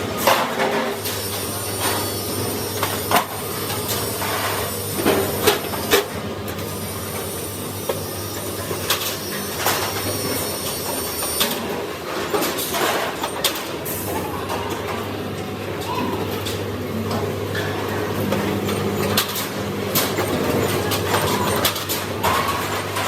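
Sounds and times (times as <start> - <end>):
factory machinery humming: 0.0 - 23.0.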